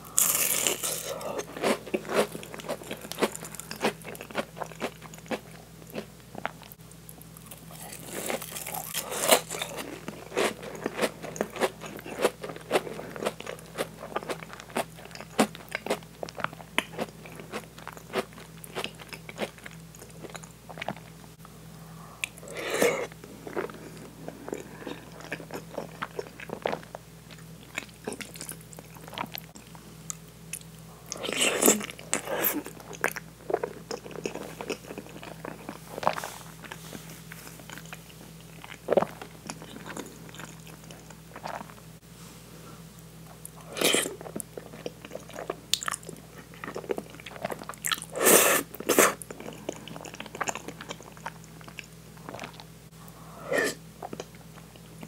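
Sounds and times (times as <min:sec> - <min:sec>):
crunchy wet chewing: 0:00.1 - 0:21.2, 0:22.2 - 0:41.8, 0:43.4 - 0:52.7, 0:53.6 - 0:55.0.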